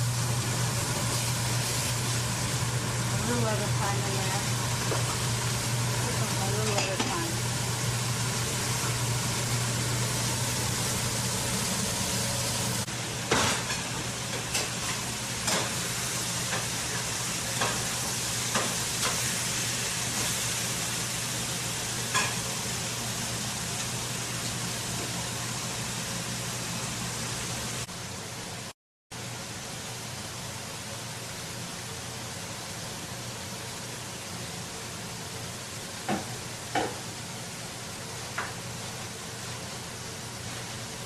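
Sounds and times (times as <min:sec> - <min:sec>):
slices sizzling in hot oil: 0:00.0 - 0:41.0.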